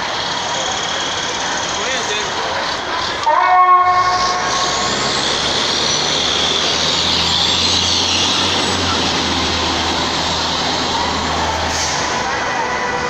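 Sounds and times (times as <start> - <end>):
fire truck engine driving past: 0.0 - 13.0
road noise: 0.0 - 13.0.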